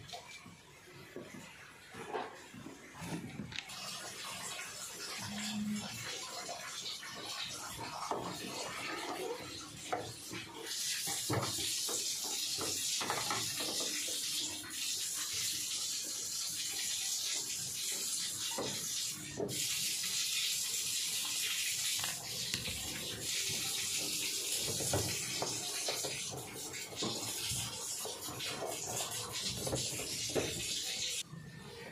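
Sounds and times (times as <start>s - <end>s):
water hissing into washing machine: 0.0s - 31.8s.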